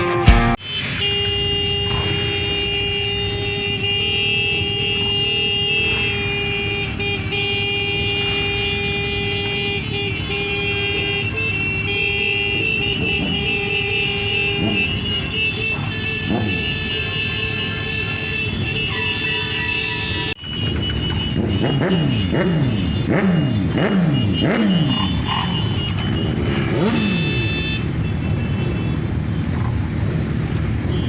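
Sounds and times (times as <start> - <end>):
horn blaring: 0.0 - 31.0
motorcycle engines rumbling: 0.6 - 31.0.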